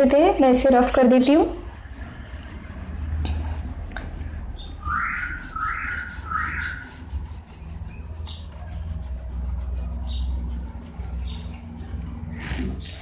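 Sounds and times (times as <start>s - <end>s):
duster wiping whiteboard: 0.0s - 13.0s.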